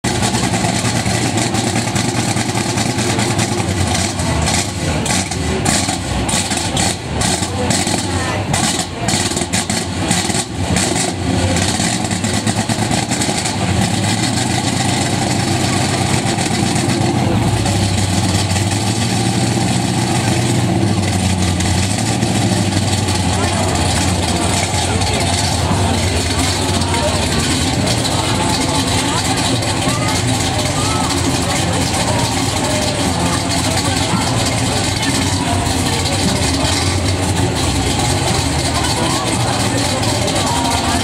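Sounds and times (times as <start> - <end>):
car engine revving and idling: 0.0 - 41.0.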